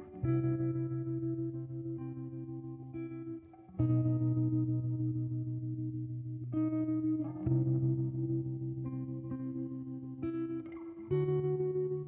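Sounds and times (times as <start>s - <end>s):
guitar-like chords: 0.0s - 12.0s.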